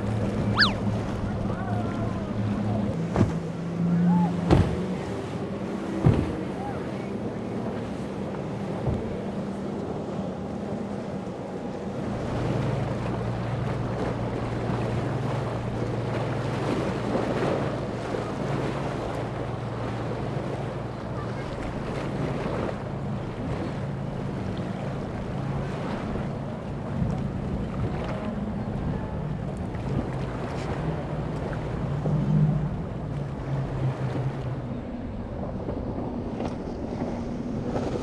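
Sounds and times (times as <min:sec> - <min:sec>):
boat engine drone: 0:00.0 - 0:38.0
hull spray and wake rushing: 0:00.0 - 0:38.0.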